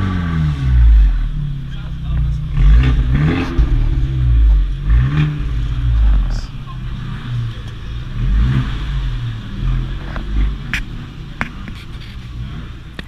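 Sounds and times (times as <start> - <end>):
car engine revving: 0.0 - 13.0
exhaust cracks: 0.0 - 13.0.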